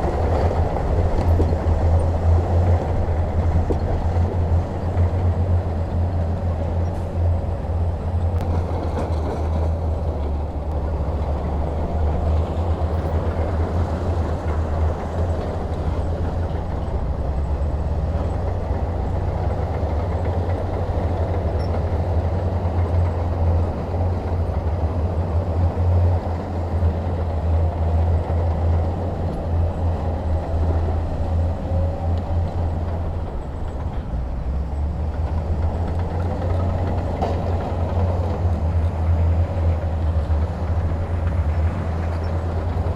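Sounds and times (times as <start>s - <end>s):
diesel engine rumbling under load: 0.0s - 42.9s.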